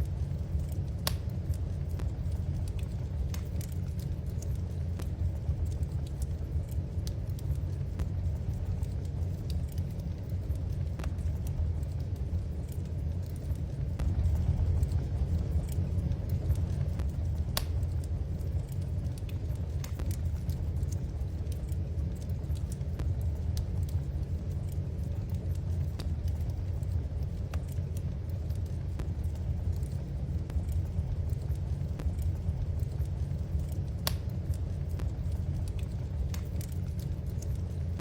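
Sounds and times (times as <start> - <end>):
fire pops and snaps: 0.0 - 38.0
low rumble of flames: 0.0 - 38.0.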